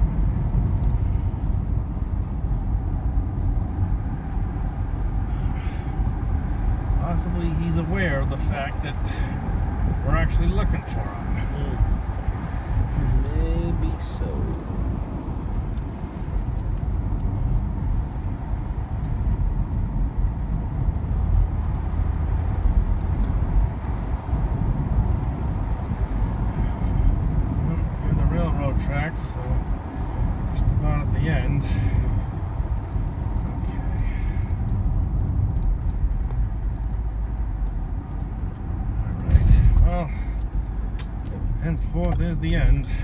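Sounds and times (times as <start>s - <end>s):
car cabin road rumble: 0.0s - 43.0s.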